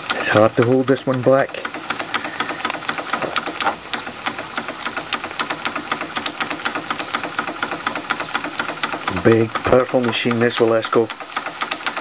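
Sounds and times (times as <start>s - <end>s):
steady steam hiss: 0.0s - 12.0s
toy steam engine running fast: 0.0s - 12.0s.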